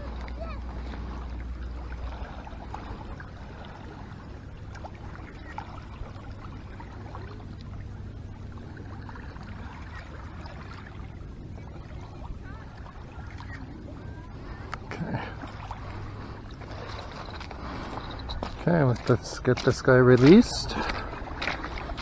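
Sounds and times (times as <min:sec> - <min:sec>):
water lapping on gravel shore: 0:00.0 - 0:22.0.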